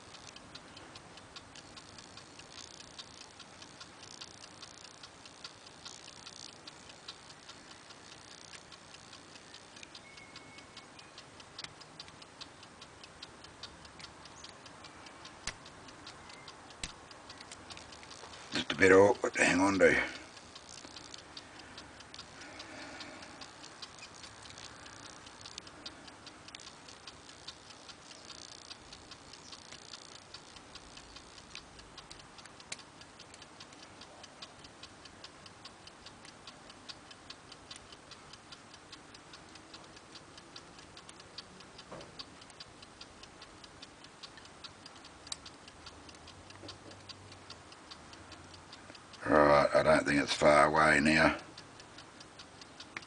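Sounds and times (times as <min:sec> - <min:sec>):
steady ticking: 0:00.0 - 0:53.0.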